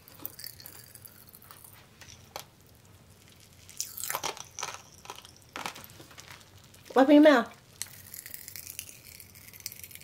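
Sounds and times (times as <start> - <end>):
candy crackling and popping: 0.0 - 10.0.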